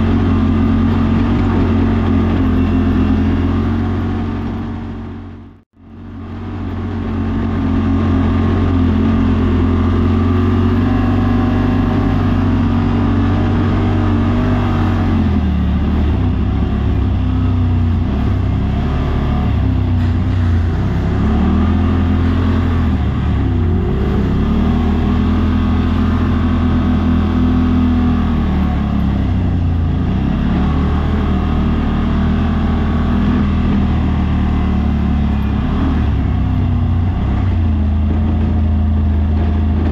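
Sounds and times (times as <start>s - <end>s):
utility vehicle engine revving: 0.0s - 39.9s.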